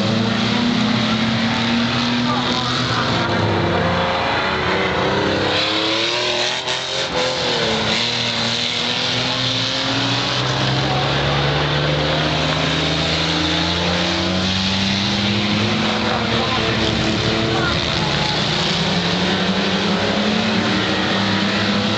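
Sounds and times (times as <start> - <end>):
race car engines: 0.0 - 21.9.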